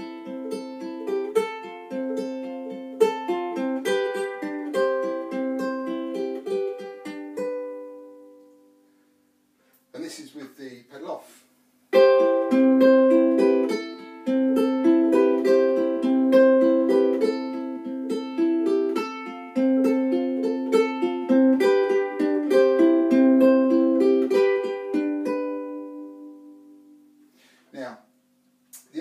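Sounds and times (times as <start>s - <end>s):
fingerpicked ukulele melody: 0.0s - 9.0s, 11.9s - 27.2s.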